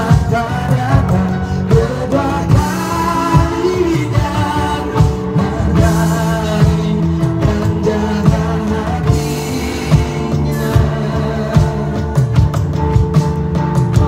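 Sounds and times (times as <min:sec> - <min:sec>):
drums played with sticks: 0:00.0 - 0:14.0
keyboard chords: 0:00.0 - 0:14.0.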